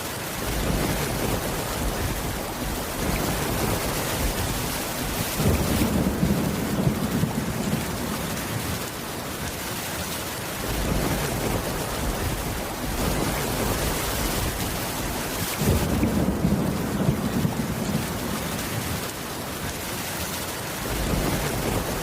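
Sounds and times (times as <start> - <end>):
heavy rain: 0.0 - 22.0
low thunder rumbling: 0.4 - 8.9, 10.6 - 19.1, 20.8 - 22.0.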